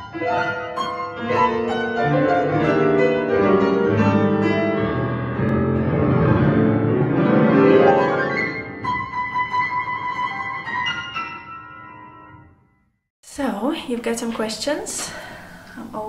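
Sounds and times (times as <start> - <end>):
classical piano piece: 0.0 - 13.0.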